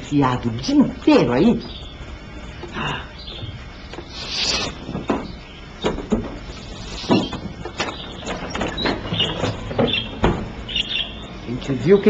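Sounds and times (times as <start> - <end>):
caged birds chirping: 0.1 - 12.0.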